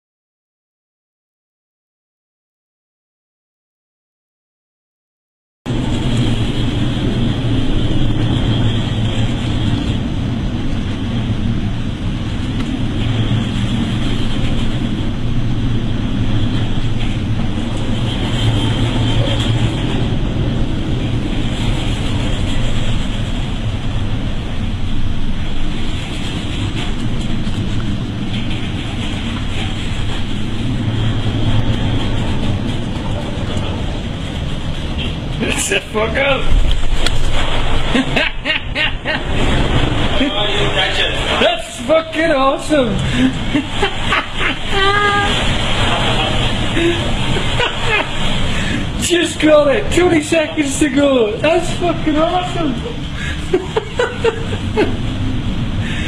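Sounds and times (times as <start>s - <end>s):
boat engine droning: 5.7s - 56.0s
sea water rushing: 5.7s - 56.0s
wind buffeting microphone: 5.7s - 56.0s.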